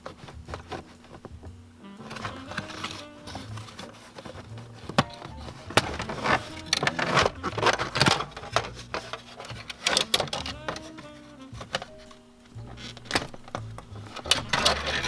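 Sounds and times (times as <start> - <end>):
background music: 0.0 - 15.0
clicks and knocks of parts handled: 2.1 - 15.0.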